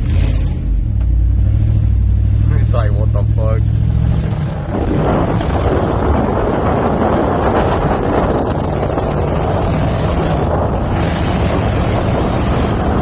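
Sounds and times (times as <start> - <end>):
road and wind rush: 0.0 - 13.0
raspy engine exhaust drone: 1.2 - 13.0.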